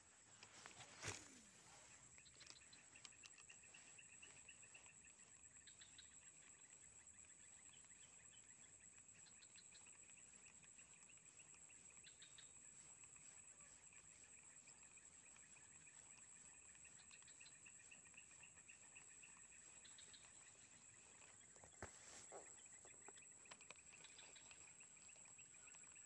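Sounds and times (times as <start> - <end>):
lower insect trill: 0.0 - 26.0
short insect chirps and ticks: 0.0 - 26.0.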